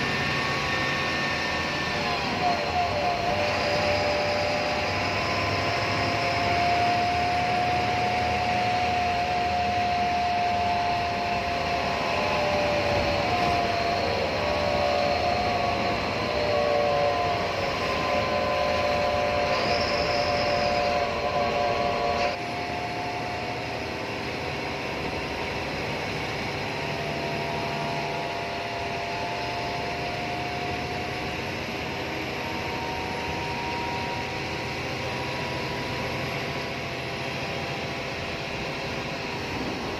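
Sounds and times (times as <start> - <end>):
bus engine and road noise: 0.0 - 39.9
wavering whining tones: 0.0 - 39.9.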